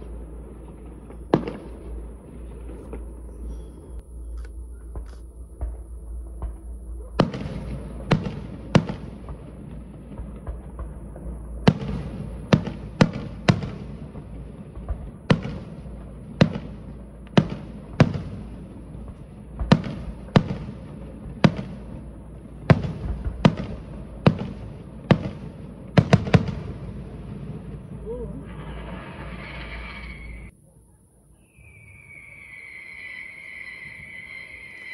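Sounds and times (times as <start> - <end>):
fireworks bangs: 0.0 - 4.0, 4.8 - 30.5.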